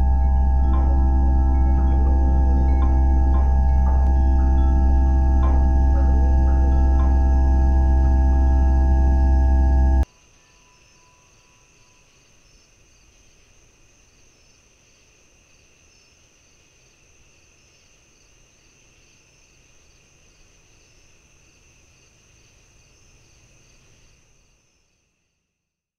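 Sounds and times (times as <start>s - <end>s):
insects chirping: 0.0s - 25.5s
low background hiss: 0.0s - 25.6s.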